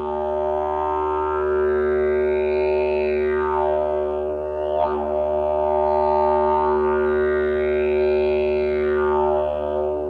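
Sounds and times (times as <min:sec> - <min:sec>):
didgeridoo drone: 0:00.0 - 0:10.0.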